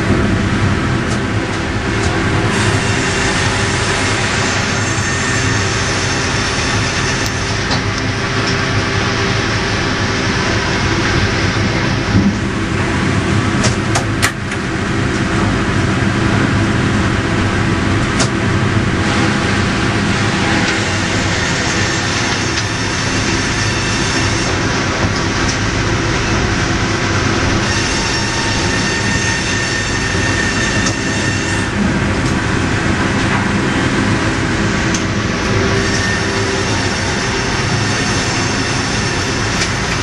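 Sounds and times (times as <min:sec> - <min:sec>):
sawmill machinery din: 0:00.0 - 0:40.0.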